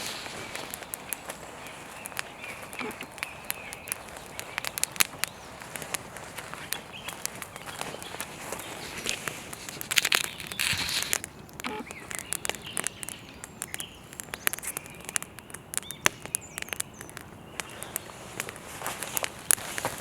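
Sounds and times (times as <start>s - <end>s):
bird chirping: 0.0s - 18.1s
dry twigs crunching: 0.0s - 20.0s.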